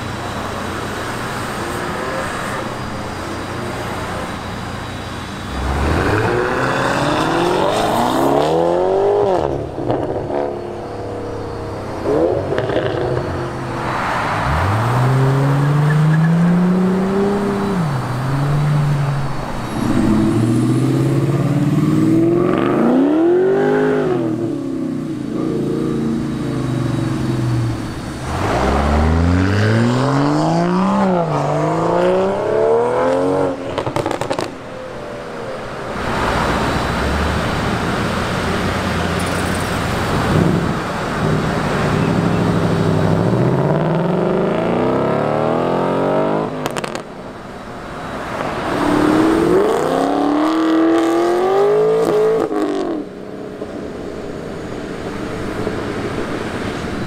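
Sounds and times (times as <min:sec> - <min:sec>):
cars accelerating past: 0:05.4 - 0:57.0.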